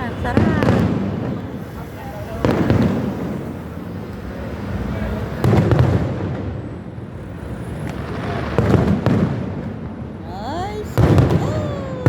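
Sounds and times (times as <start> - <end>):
sharp firework bangs: 0.0 - 6.8, 7.7 - 12.0
distant fireworks rumble: 0.0 - 12.0.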